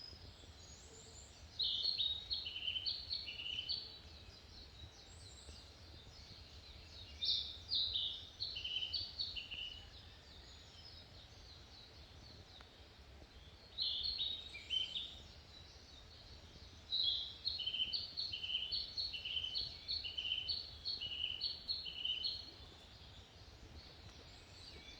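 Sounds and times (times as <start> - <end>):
songbird singing: 0.0 - 24.9.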